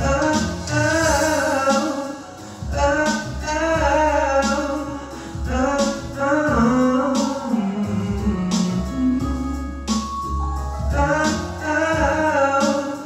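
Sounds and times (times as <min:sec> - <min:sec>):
man singing a ballad: 0:00.0 - 0:13.0
soft instrumental accompaniment: 0:00.0 - 0:13.0.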